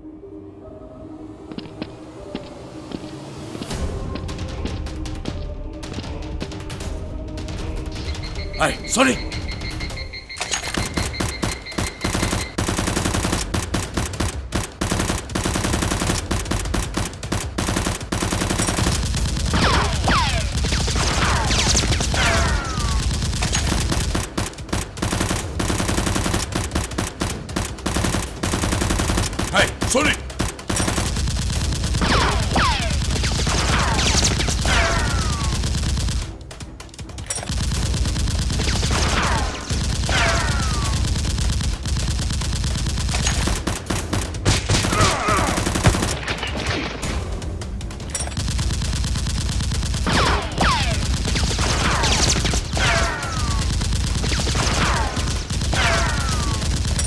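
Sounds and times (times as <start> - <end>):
low background music: 0.0 - 57.0
gunfire-like shots: 8.6 - 36.4, 37.4 - 47.4, 48.3 - 57.0.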